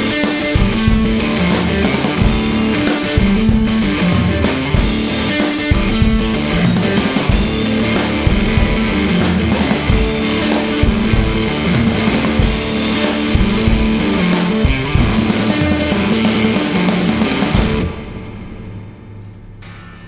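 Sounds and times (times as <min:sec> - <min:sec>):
drum kit beat: 0:00.0 - 0:18.2
electric guitar: 0:00.0 - 0:19.0.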